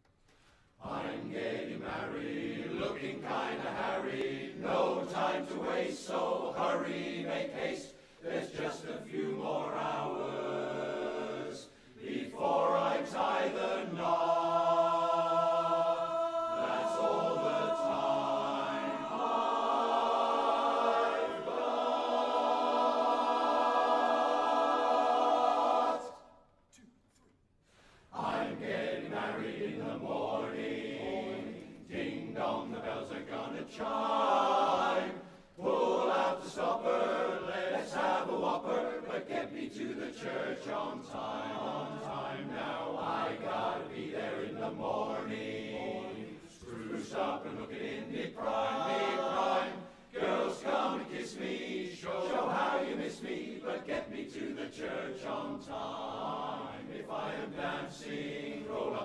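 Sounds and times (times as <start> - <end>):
men's chorus singing a cappella: 0.8 - 26.4, 28.1 - 59.0.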